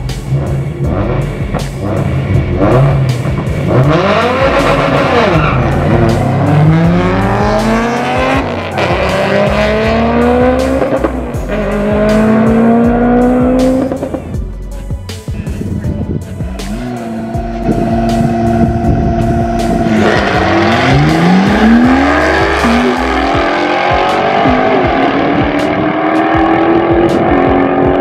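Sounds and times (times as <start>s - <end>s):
car engine accelerating hard: 0.0s - 14.4s, 16.6s - 28.0s
background music: 0.0s - 28.0s.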